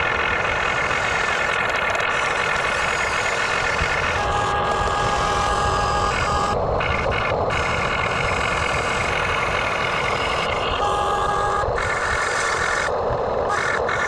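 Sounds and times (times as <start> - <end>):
toy excavator motor whine: 0.0 - 14.0.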